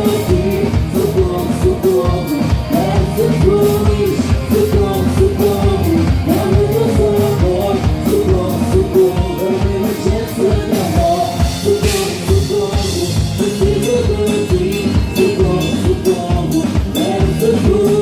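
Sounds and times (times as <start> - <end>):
drum beat: 0.0 - 18.0
live band playing upbeat song: 0.0 - 18.0
person singing: 0.0 - 18.0.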